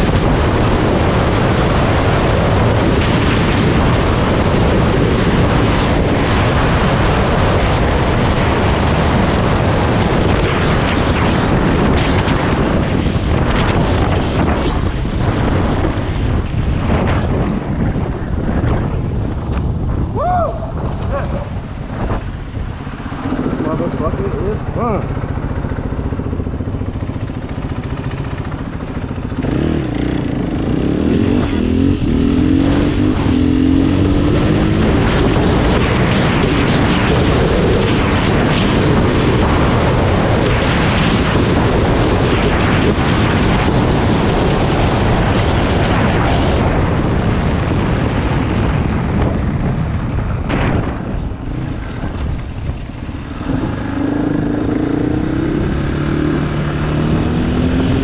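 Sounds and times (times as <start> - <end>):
motorcycle engine accelerating: 0.0 - 58.0
rush of noise: 0.0 - 58.0.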